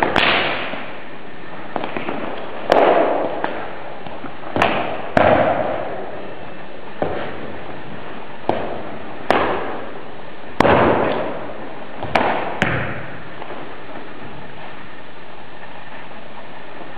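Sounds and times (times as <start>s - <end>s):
sharp cracks echoing in hall: 0.0s - 16.2s
steady hiss: 0.0s - 16.9s.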